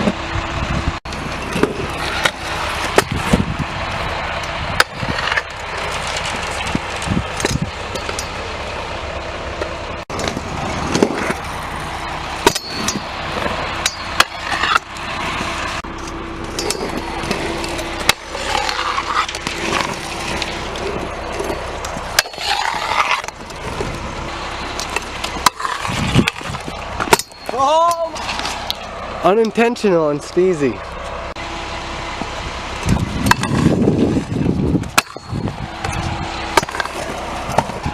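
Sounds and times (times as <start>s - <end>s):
scooter wheels rolling on concrete: 0.0s - 37.9s.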